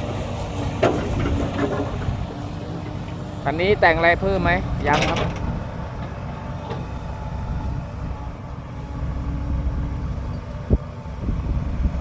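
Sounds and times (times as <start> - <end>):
diesel machinery rumble: 0.0 - 12.0.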